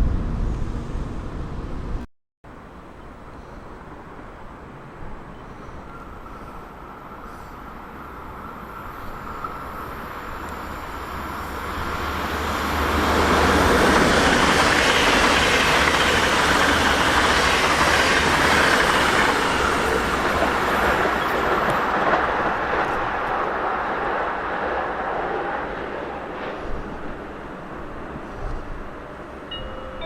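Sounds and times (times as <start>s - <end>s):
train wheels on rails: 4.7s - 30.0s.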